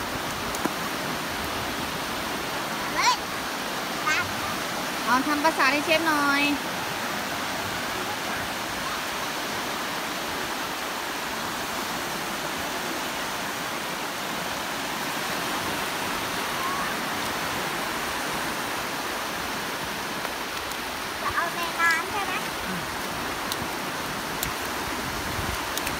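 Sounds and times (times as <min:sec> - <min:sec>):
waves washing up a beach: 0:00.0 - 0:25.9.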